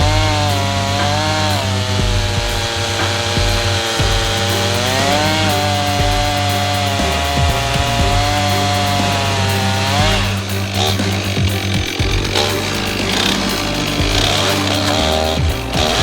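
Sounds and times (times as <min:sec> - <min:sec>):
chainsaw cutting through log: 0:00.0 - 0:16.0.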